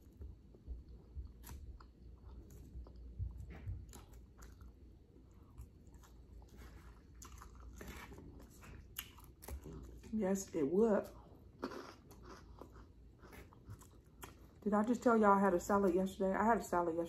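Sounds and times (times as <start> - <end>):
person chewing food: 0.0 - 10.2, 11.0 - 14.6.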